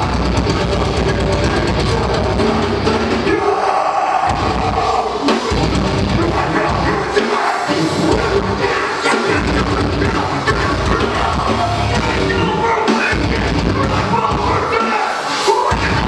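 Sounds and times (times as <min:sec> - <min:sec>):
drum kit playing: 0:00.0 - 0:03.6, 0:04.3 - 0:16.0
distorted guitars: 0:00.0 - 0:16.0.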